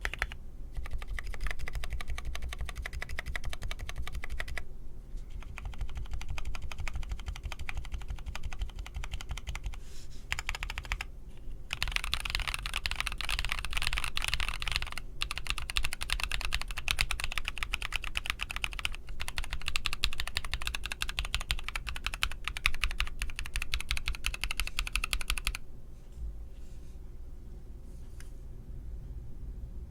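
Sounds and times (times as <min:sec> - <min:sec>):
mechanical keyboard typing: 0:00.0 - 0:04.6, 0:05.4 - 0:11.1, 0:11.7 - 0:25.6
low steady hum: 0:00.0 - 0:29.9.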